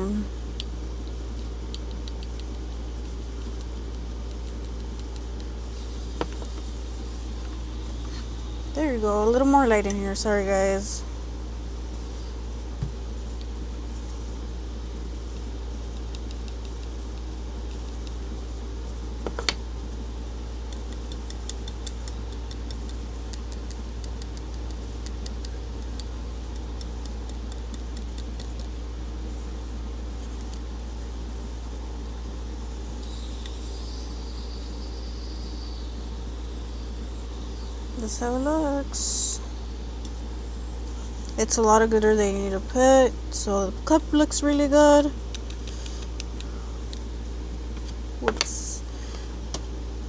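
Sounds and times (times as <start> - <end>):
appliance mechanical hum: 0.0 - 50.0.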